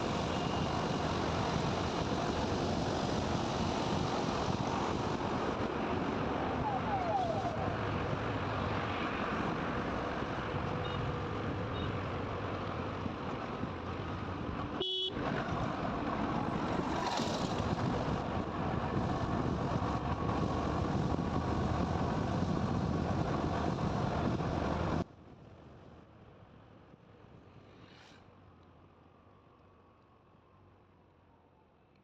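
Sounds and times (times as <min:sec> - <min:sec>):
motorcycle wind and road noise: 0:00.0 - 0:28.1.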